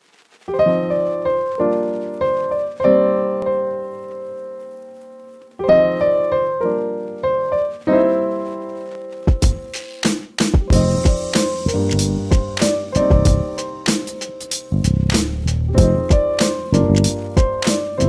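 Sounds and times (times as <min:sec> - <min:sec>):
piano music: 0:00.5 - 0:18.0.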